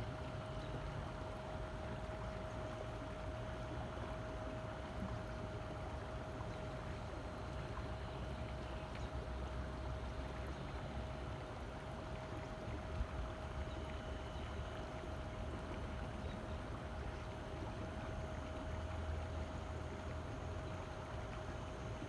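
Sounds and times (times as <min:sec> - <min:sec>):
boat motor hum: 0:00.0 - 0:22.0
constant whine: 0:00.0 - 0:22.0.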